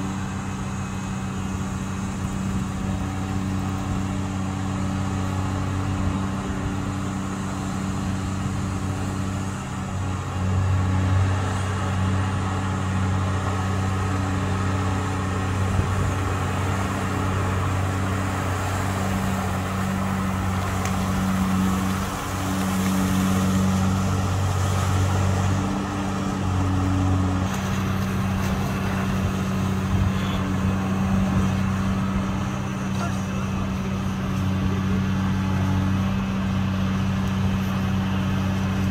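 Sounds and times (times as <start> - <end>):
excavator diesel engine under load: 0.0 - 38.9.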